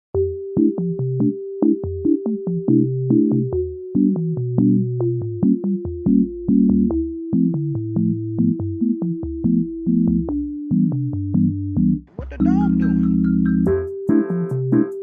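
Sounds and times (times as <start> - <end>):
light synthesizer tune with beat: 0.2 - 11.3, 12.4 - 15.0.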